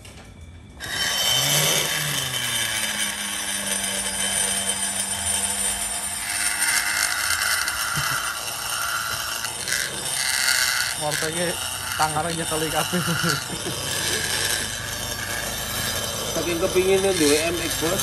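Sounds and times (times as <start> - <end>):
rotary grinder grinding metal: 0.7 - 18.0.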